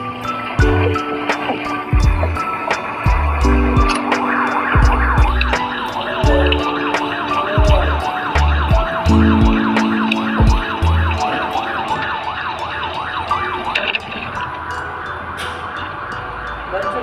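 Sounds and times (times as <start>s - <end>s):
music with deep bass beats: 0.0s - 16.8s
siren wailing: 0.0s - 16.8s.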